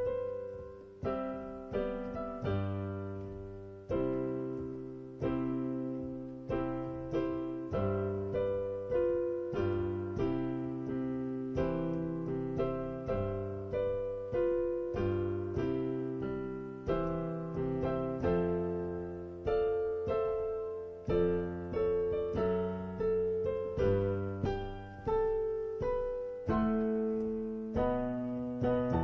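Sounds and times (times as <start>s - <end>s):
piano playing a march: 0.0s - 29.0s.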